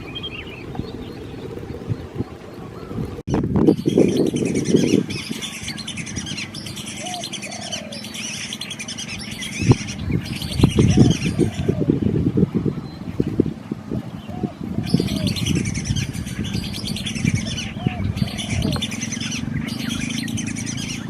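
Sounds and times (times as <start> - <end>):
low rumbling noise: 0.0 - 21.0
small birds chirping: 0.0 - 21.0.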